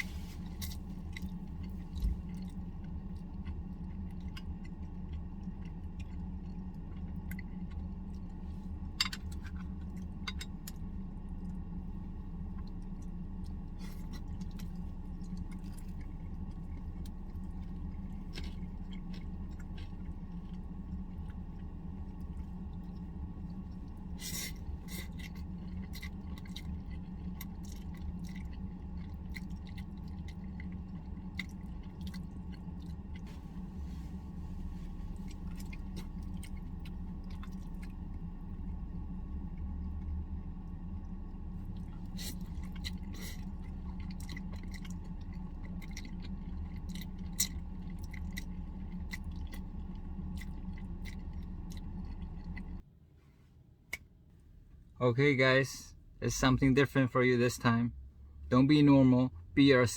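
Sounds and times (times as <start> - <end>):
person chewing: 0.0 - 11.7, 12.6 - 38.6, 41.1 - 52.8
steady low hum: 0.0 - 59.9.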